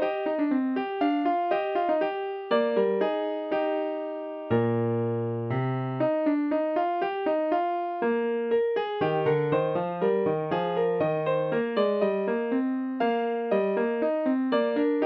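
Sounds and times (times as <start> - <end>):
piano piece: 0.0 - 15.0.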